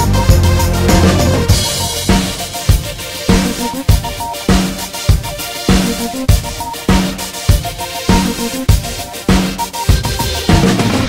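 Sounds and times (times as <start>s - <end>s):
drum beat: 0.0s - 11.0s.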